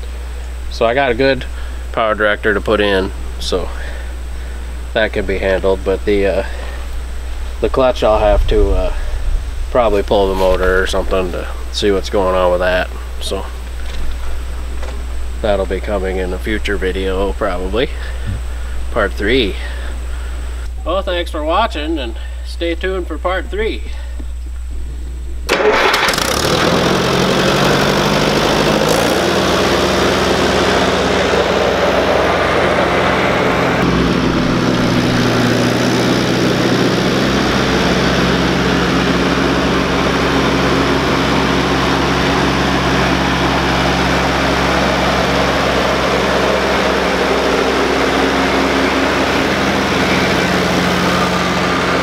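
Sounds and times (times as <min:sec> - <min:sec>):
tractor engine running: 0:00.0 - 0:20.7, 0:25.5 - 0:52.0.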